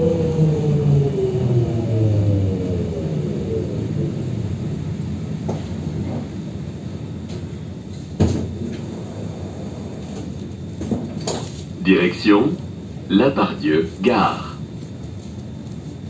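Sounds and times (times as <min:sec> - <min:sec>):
tram drive whining downward: 0:00.0 - 0:15.9
steady low rumble: 0:00.0 - 0:16.0.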